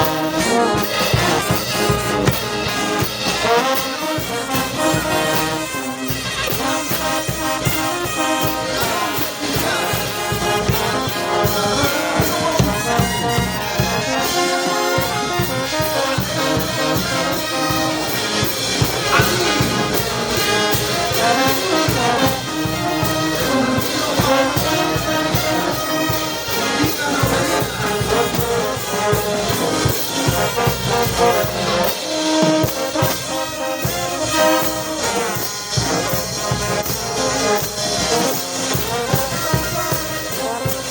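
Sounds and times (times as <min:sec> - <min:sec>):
brass band playing: 0:00.0 - 0:40.9
percussion beat: 0:00.0 - 0:40.9.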